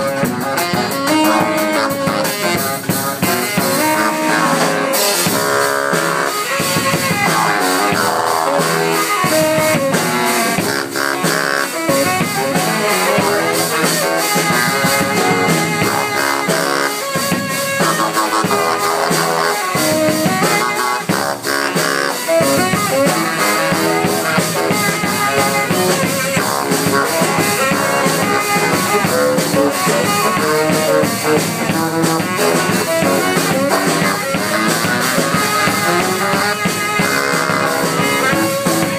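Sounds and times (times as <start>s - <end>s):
drum kit beat: 0.0s - 38.9s
saxophones trading riffs: 0.0s - 38.9s.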